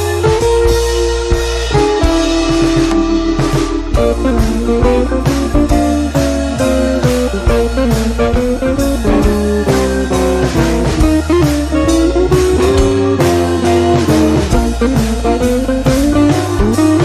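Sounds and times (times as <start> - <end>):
bluesy guitar music with drums: 0.0 - 17.0.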